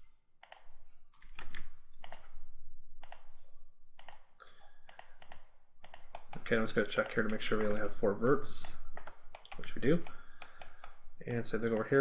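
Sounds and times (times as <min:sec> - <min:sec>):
computer mouse clicking: 0:00.4 - 0:02.4, 0:03.0 - 0:12.0.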